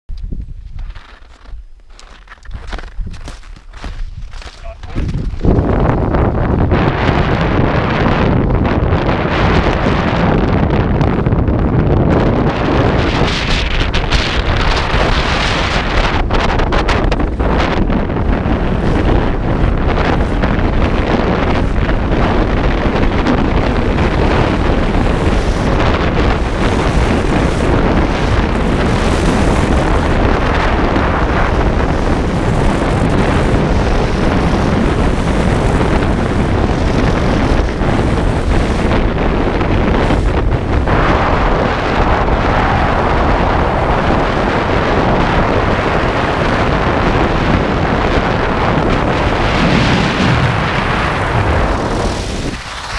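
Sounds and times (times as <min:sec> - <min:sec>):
wind rushing over microphone: 0:00.1 - 0:52.9
skis scraping on snow: 0:00.5 - 0:06.9, 0:12.5 - 0:44.8, 0:45.7 - 0:52.9.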